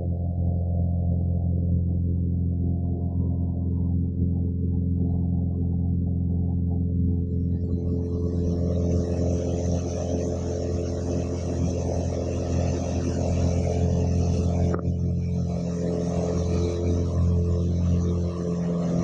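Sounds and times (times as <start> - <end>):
plane engine and propeller droning: 0.0 - 19.0.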